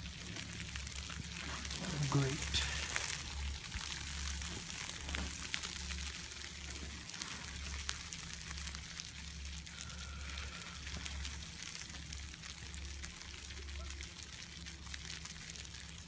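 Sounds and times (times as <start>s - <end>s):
crackling hiss: 0.0s - 16.0s.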